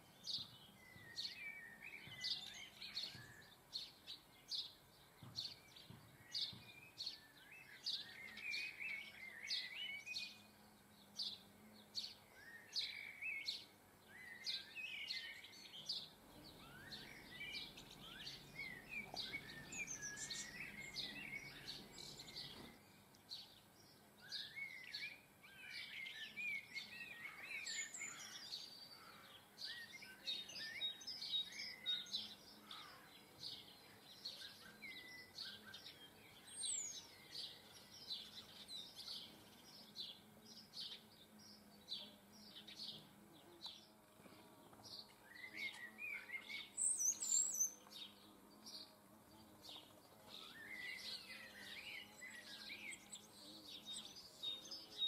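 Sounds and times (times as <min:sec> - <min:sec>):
birds chirping and singing: 0:00.0 - 0:55.0
faint background noise: 0:00.0 - 0:55.0.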